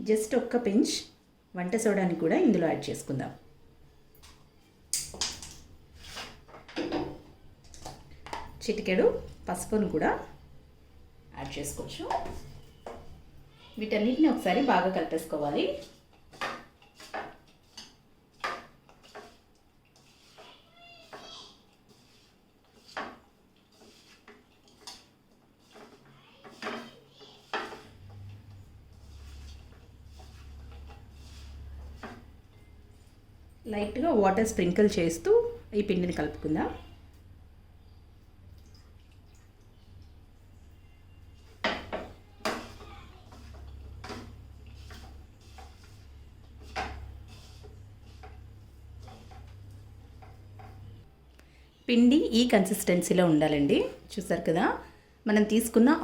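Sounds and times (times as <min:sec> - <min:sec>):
faint rustling of mixing: 0:00.0 - 0:56.0.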